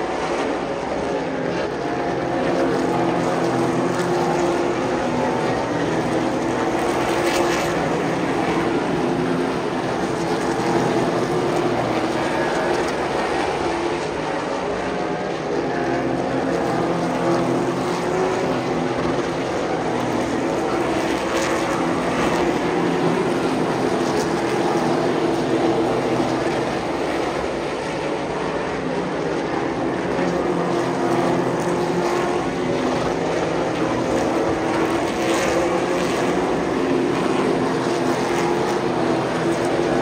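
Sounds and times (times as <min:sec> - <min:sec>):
race car engines droning: 0:00.0 - 0:40.0.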